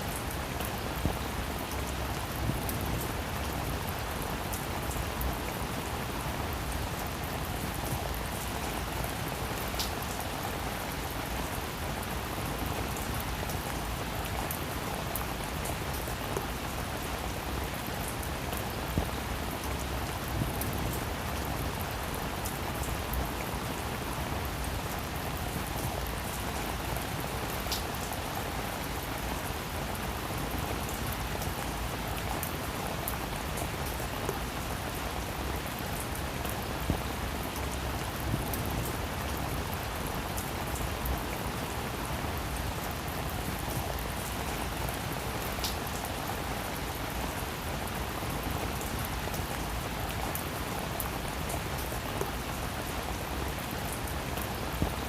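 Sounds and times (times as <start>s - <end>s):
rain pattering on roof: 0.0s - 55.0s.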